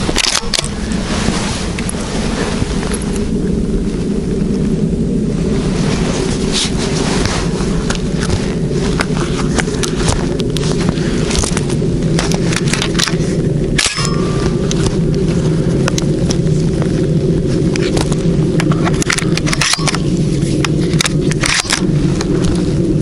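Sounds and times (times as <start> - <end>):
footsteps crunching through frosty grass: 0.0 - 18.8
low rumble on the microphone: 0.0 - 23.0.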